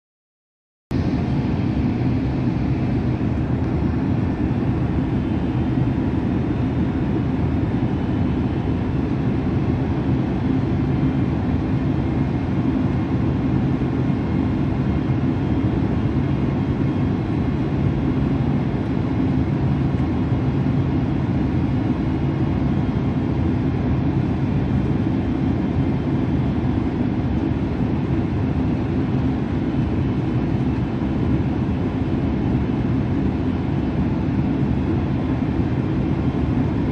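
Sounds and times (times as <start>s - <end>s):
jet airliner cabin rumble: 0.9s - 36.9s
faint constant hum: 1.0s - 36.9s.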